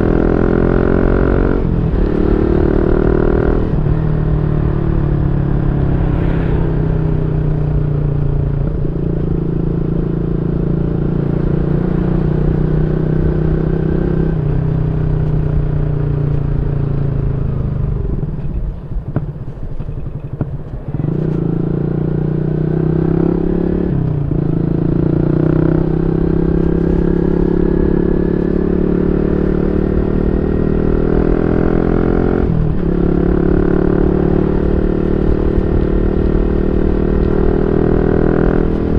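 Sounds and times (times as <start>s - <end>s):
motorcycle engine shifting gears: 0.0s - 38.9s.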